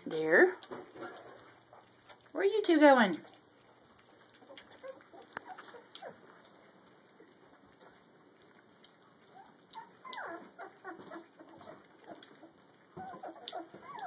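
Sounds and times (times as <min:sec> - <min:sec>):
puppies lapping and scuffling: 0:00.0 - 0:14.0
puppies squeaking and whining: 0:00.7 - 0:02.4, 0:03.2 - 0:06.5, 0:07.6 - 0:14.0.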